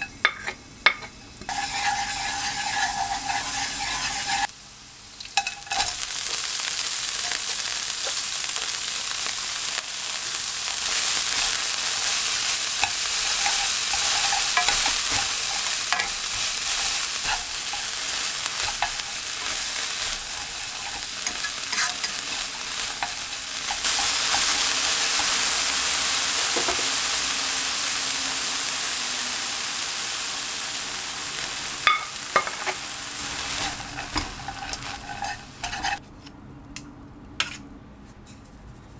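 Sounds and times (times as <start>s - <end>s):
vegetables sizzling in oil: 0.0s - 36.0s.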